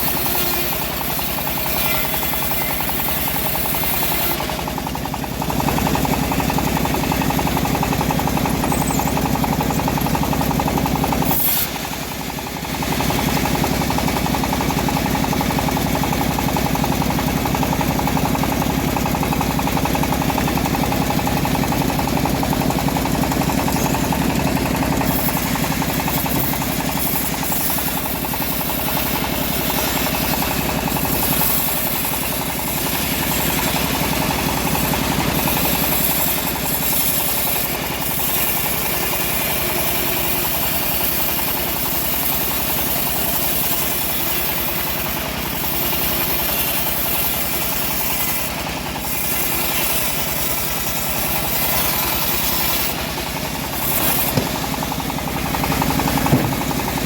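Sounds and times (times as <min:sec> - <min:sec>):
bandsaw sawing log: 0:00.0 - 0:57.0
engine drone: 0:00.0 - 0:57.0.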